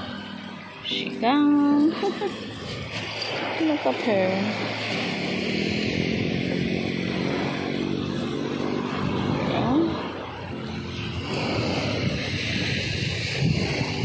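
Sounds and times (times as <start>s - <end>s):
engine running drone: 0.0s - 14.0s.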